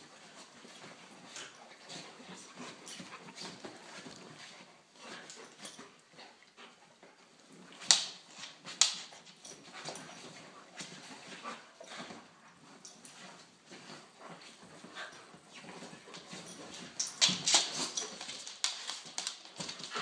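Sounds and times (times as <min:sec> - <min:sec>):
dogs scuffling: 0:00.0 - 0:20.0.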